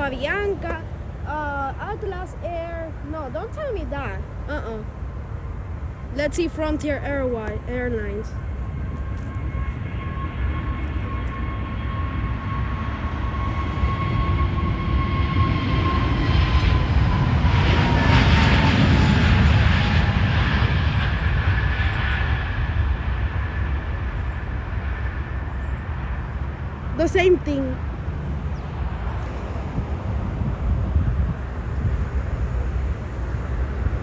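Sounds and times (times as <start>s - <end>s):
jet airliner engines passing: 0.0s - 34.0s
turbine whine: 0.0s - 34.0s.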